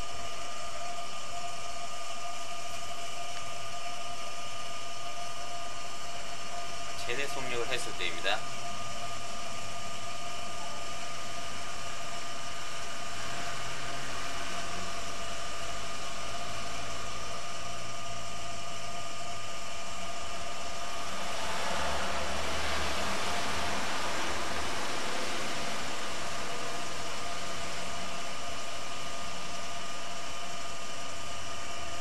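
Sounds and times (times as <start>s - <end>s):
motor whirring with faint whine: 0.0s - 32.0s.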